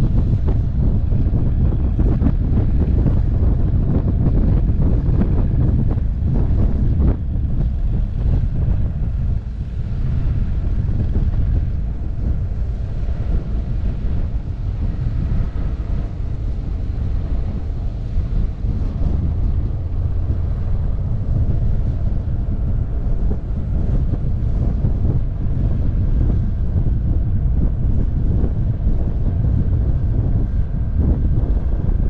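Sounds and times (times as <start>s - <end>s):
motorcycle engine running: 0.0s - 32.0s
wind buffeting microphone: 0.0s - 32.0s.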